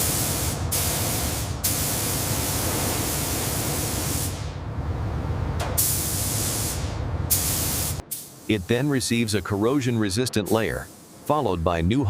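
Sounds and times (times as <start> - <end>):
spray gun hissing: 0.0 - 4.5, 5.8 - 11.5.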